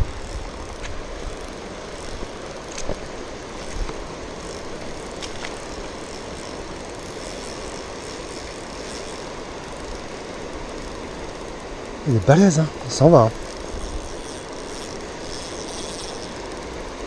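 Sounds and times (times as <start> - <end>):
fishing reel whirring and clicking: 0.0 - 17.0
wind: 0.0 - 17.0.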